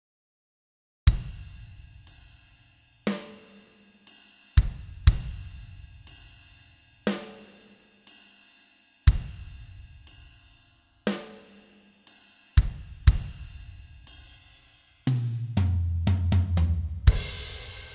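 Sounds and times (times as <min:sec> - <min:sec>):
slow drum kit beat: 0:01.1 - 0:17.9.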